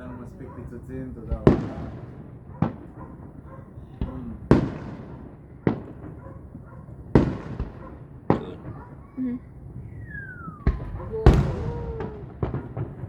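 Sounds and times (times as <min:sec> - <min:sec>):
distant fireworks booming: 0:00.0 - 0:13.0.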